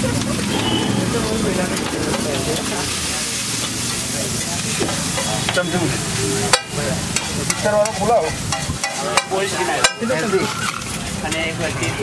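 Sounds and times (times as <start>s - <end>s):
food sizzling on griddle: 0.0s - 12.0s.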